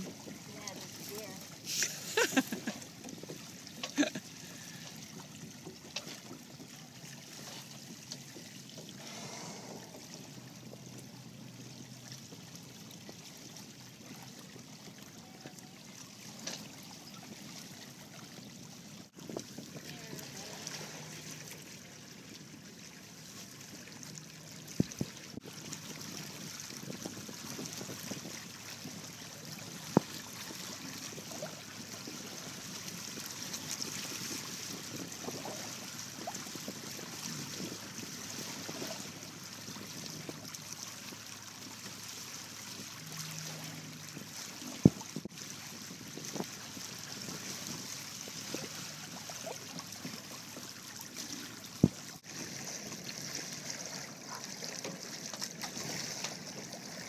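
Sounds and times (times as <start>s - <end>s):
water sloshing along hulls: 0.0s - 57.0s.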